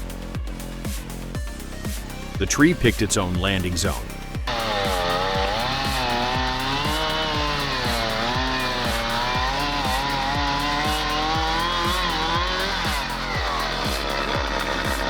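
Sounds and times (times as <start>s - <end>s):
background music with steady beat: 0.0s - 15.0s
chainsaw running: 0.0s - 15.0s.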